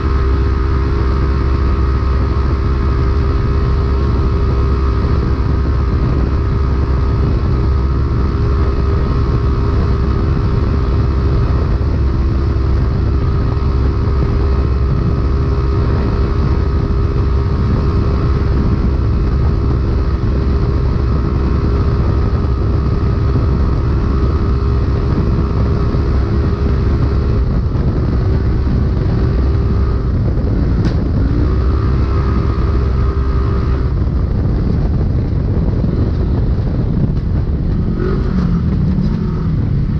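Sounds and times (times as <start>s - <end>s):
engine at high revs: 0.0s - 39.9s
heavy low ride rumble: 0.0s - 39.9s.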